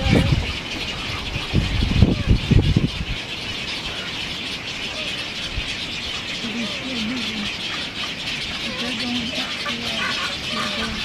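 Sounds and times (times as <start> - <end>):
egrets croaking: 0.0 - 11.0.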